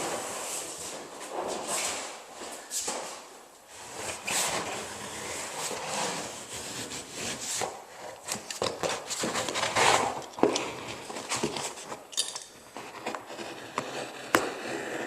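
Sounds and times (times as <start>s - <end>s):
vinyl flooring scraping on floor: 0.0s - 12.1s, 12.7s - 15.0s.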